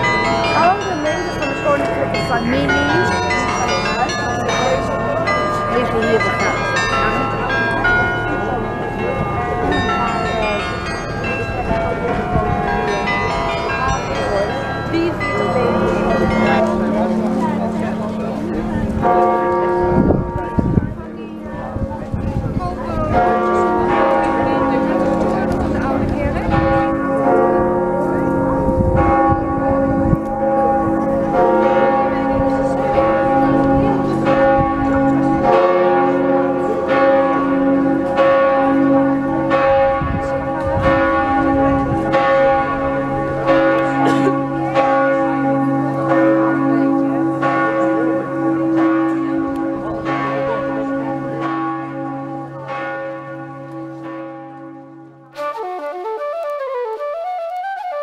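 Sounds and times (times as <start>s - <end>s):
church bells ringing: 0.0s - 55.9s.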